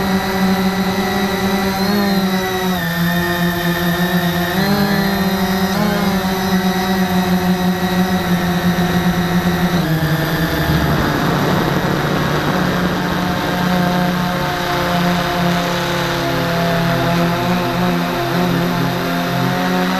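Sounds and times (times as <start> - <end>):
drone propellers whirring: 0.0 - 19.9.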